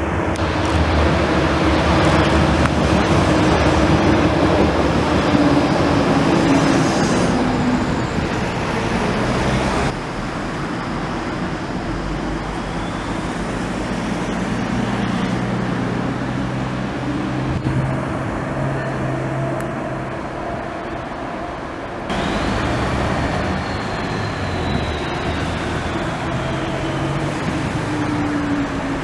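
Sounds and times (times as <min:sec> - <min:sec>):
tram pulling away: 0:00.0 - 0:29.0
tram rumbling on rails: 0:00.0 - 0:29.0.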